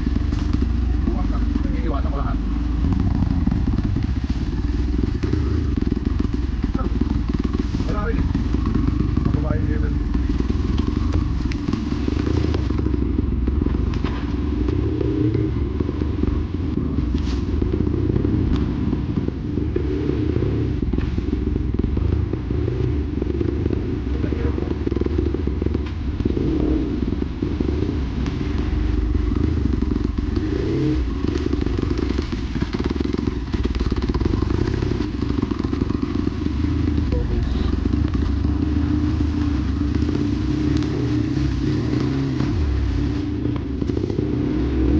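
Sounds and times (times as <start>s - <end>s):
bike rattling and knocking: 0.0s - 44.4s
dirt bike engine running: 0.0s - 44.9s.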